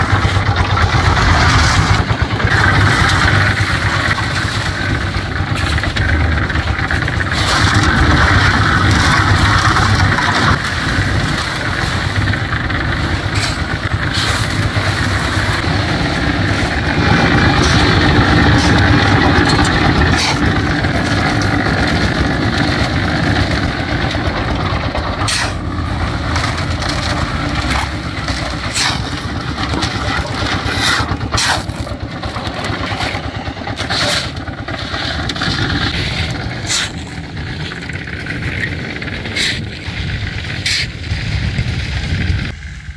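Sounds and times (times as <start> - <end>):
drum churning wet concrete: 0.0 - 42.7
concrete mixer engine running: 0.0 - 42.9.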